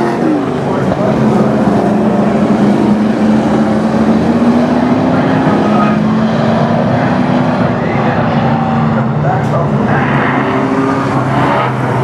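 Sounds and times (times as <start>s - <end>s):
race engines at high revs: 0.0s - 12.0s.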